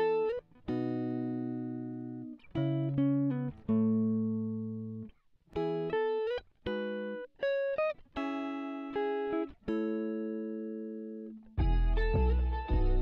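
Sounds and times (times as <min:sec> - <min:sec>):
solo guitar picking notes: 0:00.0 - 0:13.0.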